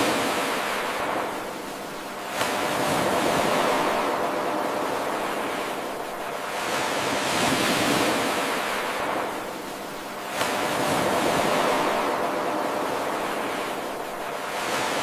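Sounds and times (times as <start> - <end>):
waves washing on shore: 0.0 - 15.0.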